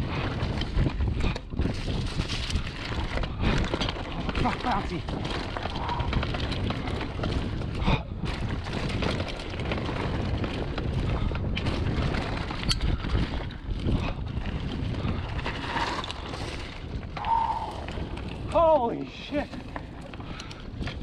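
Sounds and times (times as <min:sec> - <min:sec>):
bike knocking and rattling: 0:00.0 - 0:21.0
wind on microphone: 0:00.0 - 0:21.0
tyres rolling over dirt and leaves: 0:00.1 - 0:21.0.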